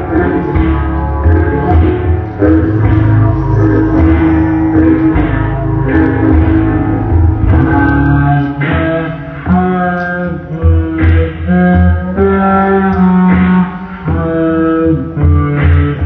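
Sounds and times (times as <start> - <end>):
pulsing bass line: 0.0 - 16.0
rock music with guitar: 0.0 - 16.0.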